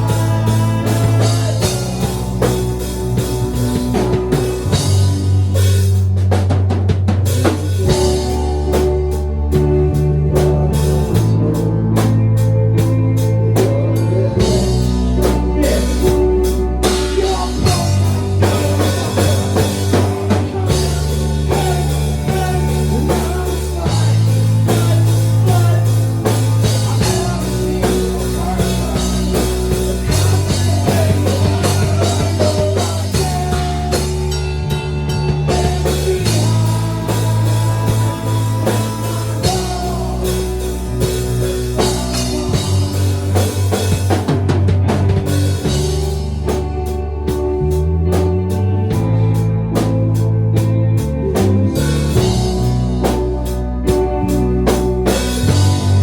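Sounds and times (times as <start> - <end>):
rock music: 0.0 - 56.0.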